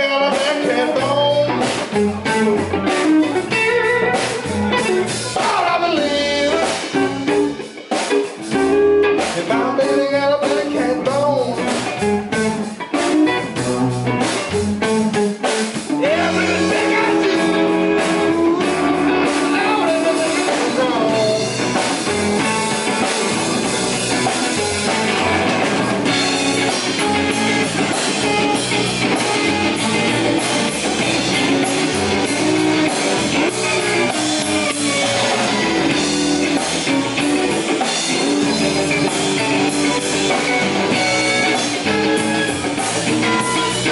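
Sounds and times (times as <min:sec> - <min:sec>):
drum kit: 0:00.0 - 0:43.9
electric bass: 0:00.0 - 0:43.9
electric guitar: 0:00.0 - 0:43.9.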